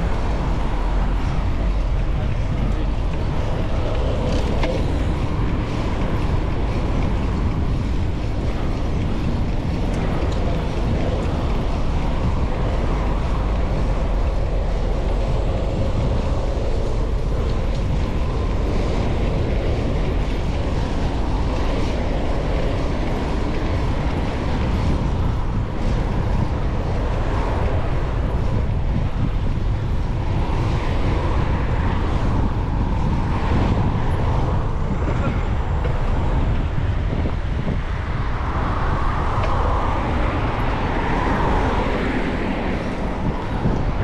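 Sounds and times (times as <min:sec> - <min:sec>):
city road traffic: 0:00.0 - 0:44.0
wind buffeting microphone: 0:00.0 - 0:44.0.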